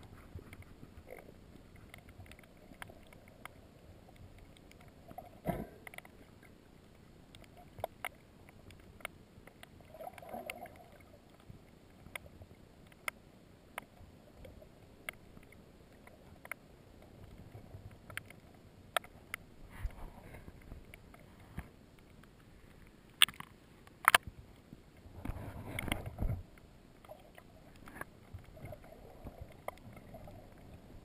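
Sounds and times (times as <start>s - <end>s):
muffled underwater wash: 0.0s - 31.0s
sharp clicks underwater: 0.0s - 31.0s.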